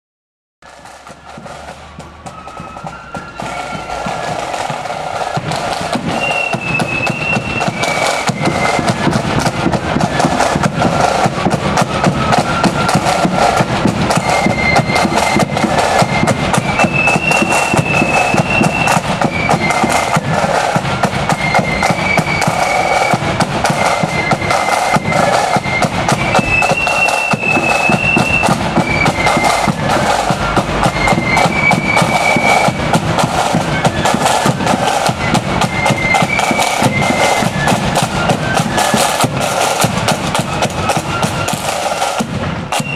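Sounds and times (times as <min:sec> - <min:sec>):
bass drum beats: 0:00.6 - 0:42.9
high flute melody: 0:00.6 - 0:42.9
snare drum rolls: 0:00.6 - 0:42.9.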